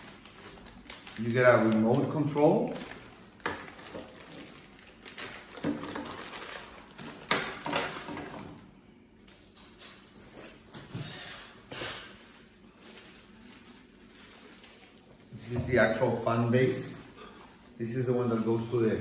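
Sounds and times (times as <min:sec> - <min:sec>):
packaging rustling: 0:00.0 - 0:08.5, 0:12.0 - 0:19.0.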